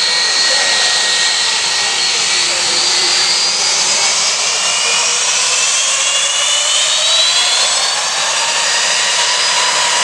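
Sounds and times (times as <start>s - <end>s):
jet engines roaring at take-off: 0.0s - 10.0s
rising engine whine: 0.0s - 10.0s.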